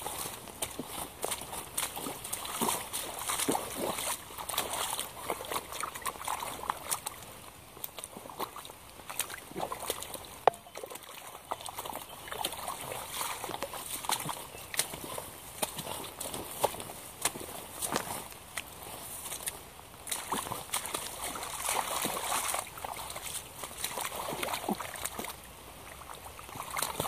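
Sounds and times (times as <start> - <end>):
boots squelching through mud: 0.0 - 27.0.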